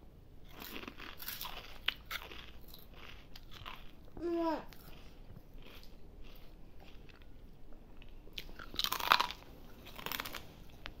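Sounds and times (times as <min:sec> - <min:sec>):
baby crunching crispy snack: 0:00.5 - 0:07.3, 0:08.4 - 0:11.0.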